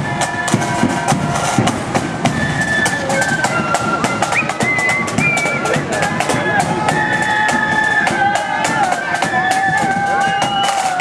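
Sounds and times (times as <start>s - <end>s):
bass drum beats: 0.0s - 11.0s
flute melody: 0.0s - 11.0s
snare drum strokes: 0.0s - 11.0s.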